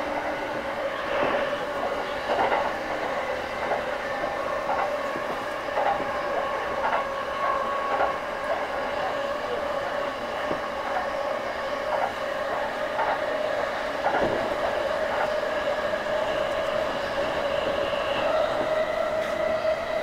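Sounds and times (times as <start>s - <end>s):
electric train whine: 0.0s - 20.0s
train running rumble: 0.0s - 20.0s.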